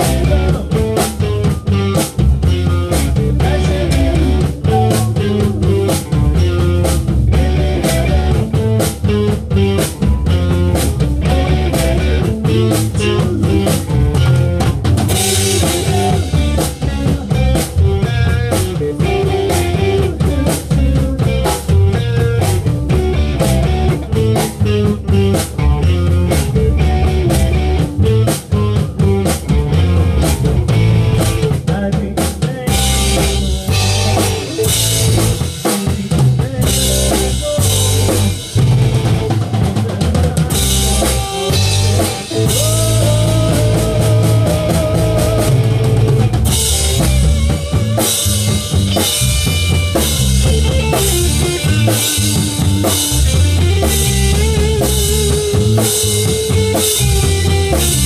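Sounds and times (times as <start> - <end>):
live band playing: 0.0 - 58.0.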